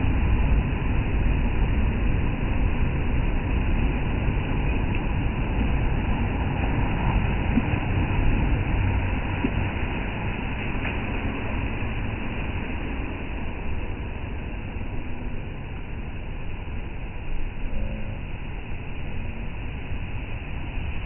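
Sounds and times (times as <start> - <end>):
ocean waves breaking: 0.0 - 17.6.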